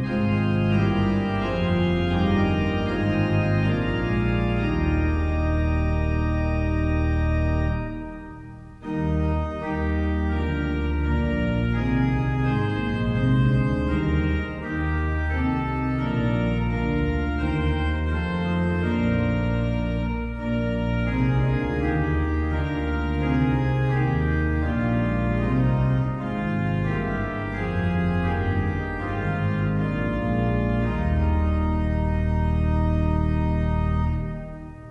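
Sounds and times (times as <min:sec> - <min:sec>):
organ music: 0:00.0 - 0:34.9.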